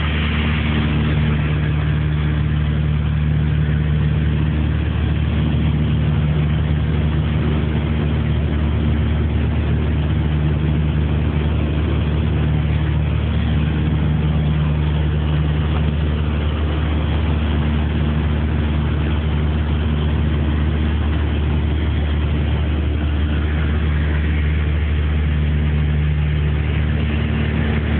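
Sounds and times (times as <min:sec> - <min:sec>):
aircraft engines droning: 0:00.0 - 0:27.9.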